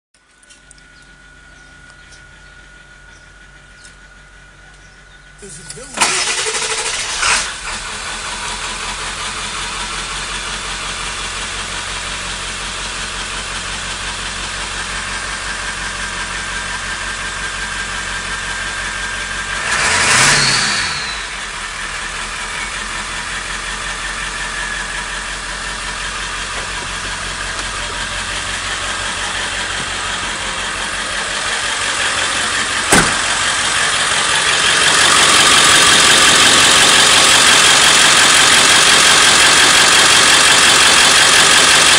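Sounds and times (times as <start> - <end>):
diesel engine idling with ticking: 0.2 - 41.9.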